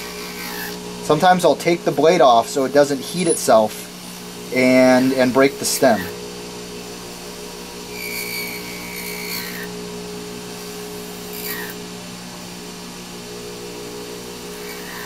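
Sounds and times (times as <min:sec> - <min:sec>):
high thin cutting whine: 0:00.0 - 0:15.0
lathe humming: 0:00.0 - 0:15.0.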